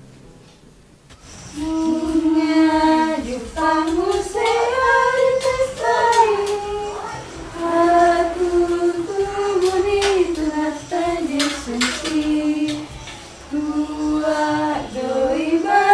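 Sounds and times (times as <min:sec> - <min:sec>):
high voice singing slow melody: 0:01.4 - 0:15.9.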